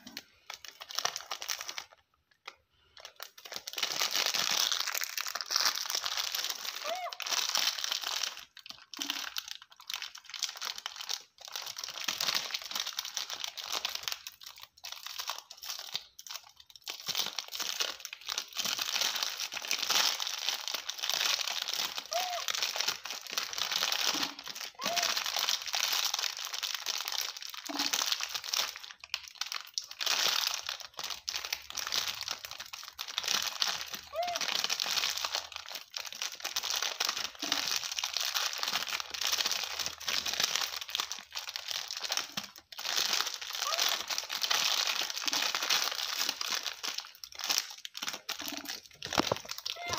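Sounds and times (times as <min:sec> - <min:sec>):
plastic snack wrapper crinkling: 0:00.0 - 0:49.9.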